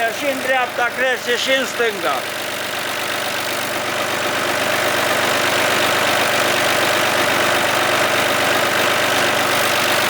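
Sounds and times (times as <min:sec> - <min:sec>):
hydraulic pump running: 0:00.0 - 0:10.0.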